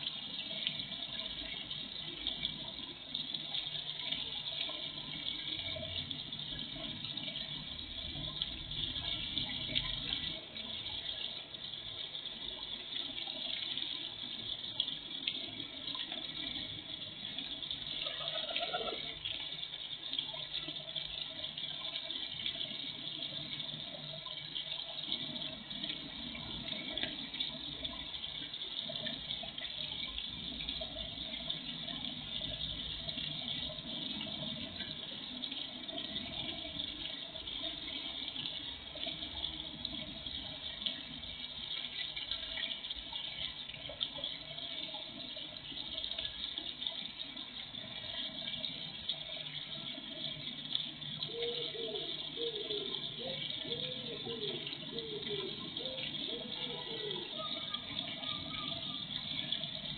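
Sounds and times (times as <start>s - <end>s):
fountain splashing into pond: 0.0s - 59.9s.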